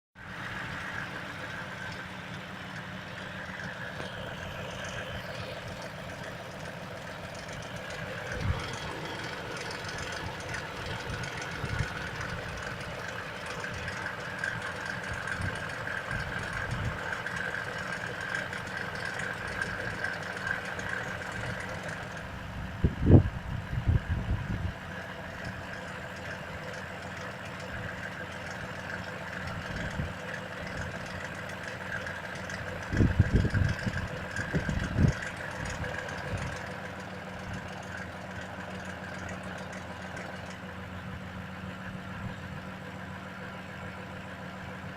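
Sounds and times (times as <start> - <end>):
vehicle engine idling with knock: 0.2 - 44.9.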